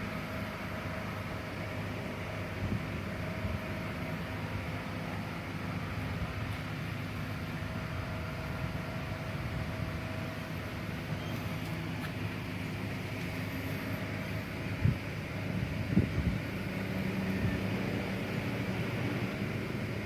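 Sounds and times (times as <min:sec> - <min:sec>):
faint constant whine: 0:00.0 - 0:20.0
low mechanical hum: 0:00.0 - 0:20.0.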